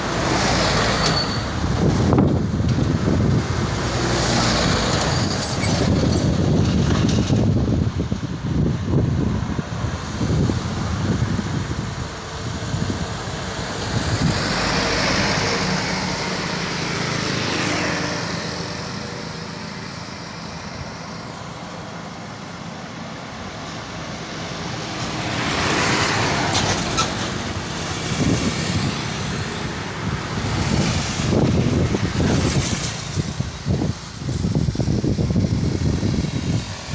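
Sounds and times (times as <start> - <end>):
vehicles passing on a road: 0.0 - 36.9.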